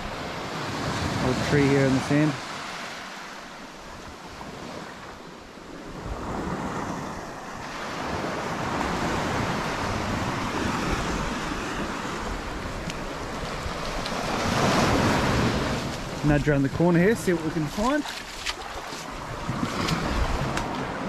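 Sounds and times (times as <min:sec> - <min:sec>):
waves washing onto beach: 0:00.0 - 0:21.0
wind buffeting microphone: 0:03.8 - 0:21.0.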